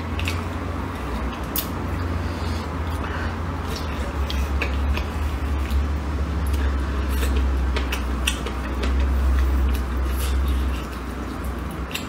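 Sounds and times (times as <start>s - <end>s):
chewing with wet mouth clicks: 0.0s - 2.2s, 2.8s - 12.0s.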